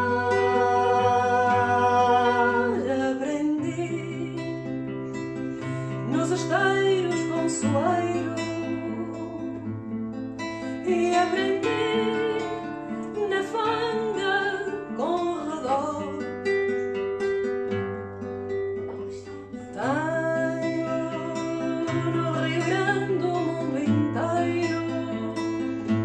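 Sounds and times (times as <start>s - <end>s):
person singing: 0.0s - 4.7s, 5.6s - 9.7s, 10.6s - 16.2s, 18.9s - 26.0s
acoustic guitar: 0.0s - 26.0s.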